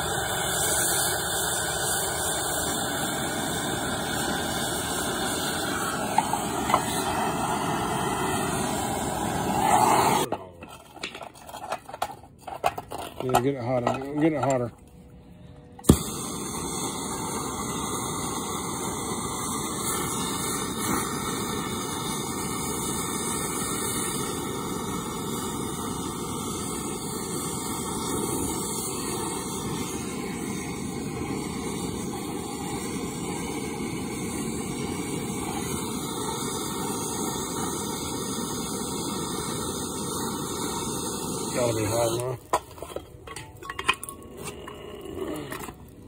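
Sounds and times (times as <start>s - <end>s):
gas torch flame hissing: 0.0s - 10.3s, 15.8s - 46.0s.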